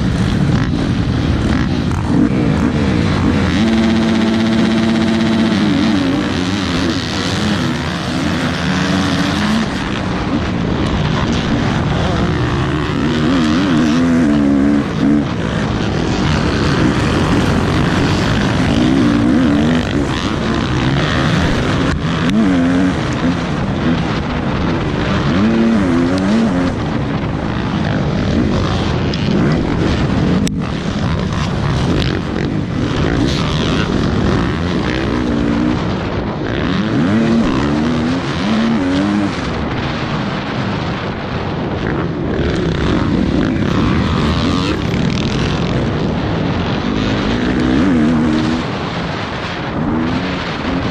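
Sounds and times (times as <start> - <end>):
dirt bike engine revving: 0.0 - 50.9
wind noise: 0.0 - 50.9.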